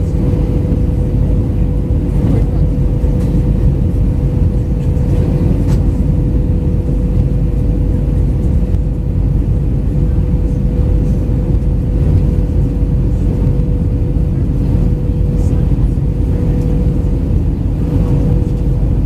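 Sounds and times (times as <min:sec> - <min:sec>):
airplane cabin engine rumble: 0:00.0 - 0:19.0
steady hum: 0:00.0 - 0:19.0.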